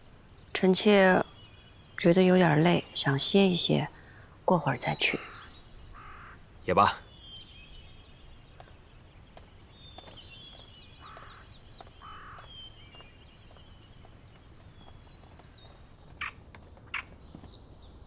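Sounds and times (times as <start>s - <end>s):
faint birdsong twittering: 0.0s - 18.0s.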